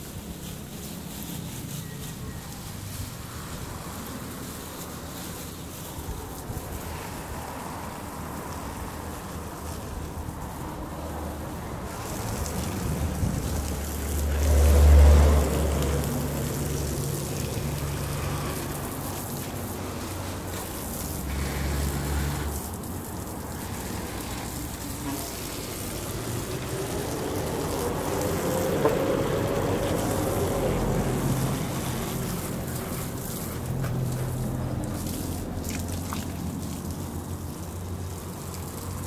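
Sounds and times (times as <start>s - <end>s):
garden hose spraying water: 0.0s - 39.0s.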